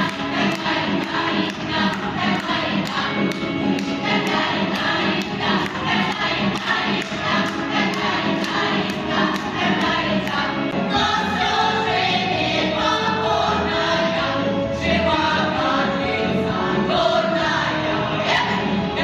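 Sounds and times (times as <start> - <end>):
voices singing together: 0.0 - 19.0.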